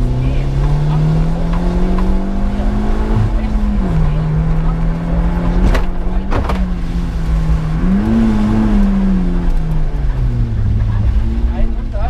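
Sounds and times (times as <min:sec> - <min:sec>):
low rumble of car and road: 0:00.0 - 0:12.0
rally car engine at high revs: 0:00.0 - 0:12.0.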